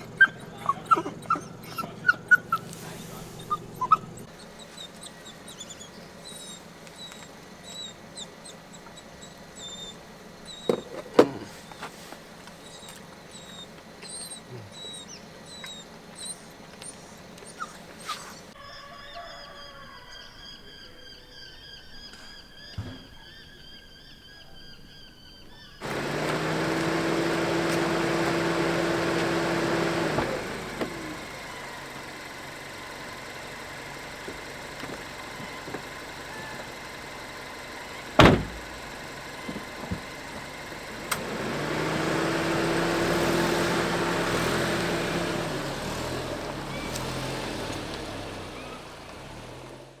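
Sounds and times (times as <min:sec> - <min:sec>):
vehicle engine with road noise: 0:00.0 - 0:18.6, 0:25.8 - 0:50.0.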